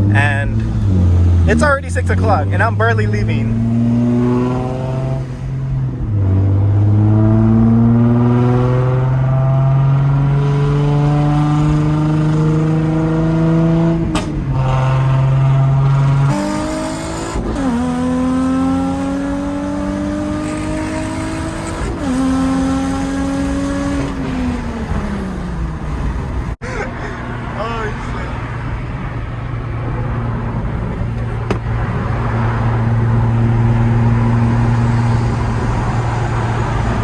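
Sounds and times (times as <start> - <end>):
car engine accelerating through gears: 0.0 - 26.6, 28.5 - 37.0.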